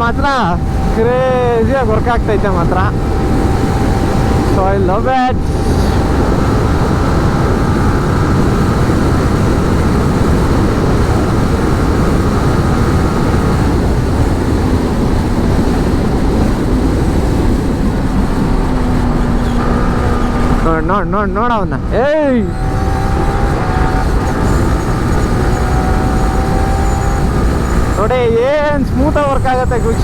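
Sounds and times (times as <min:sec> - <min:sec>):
motorcycle engine: 0:00.0 - 0:30.0
road noise: 0:00.0 - 0:30.0
wind rush on microphone: 0:00.0 - 0:30.0.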